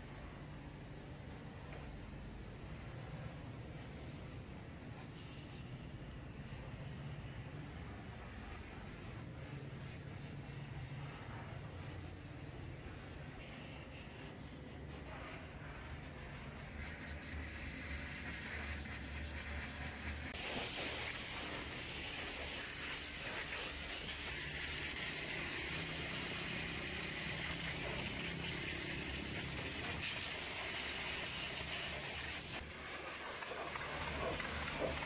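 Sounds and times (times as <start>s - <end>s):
pressure washer spraying water: 6.5s - 35.0s.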